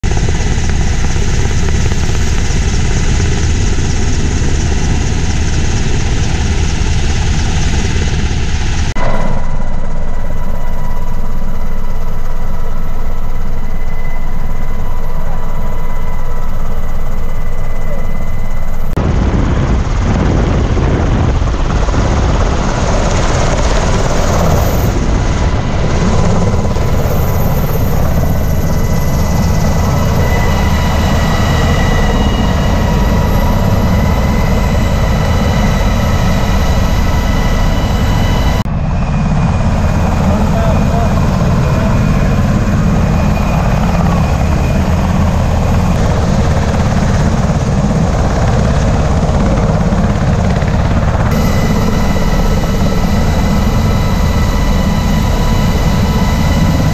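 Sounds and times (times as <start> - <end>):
helicopter rumble and roar in cabin: 0.0 - 56.9
high turbine whine: 0.0 - 56.9.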